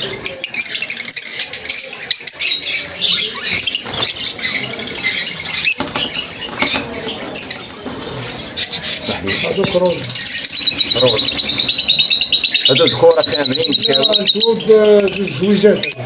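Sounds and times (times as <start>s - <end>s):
lovebirds chirping and squeaking: 0.0s - 16.0s.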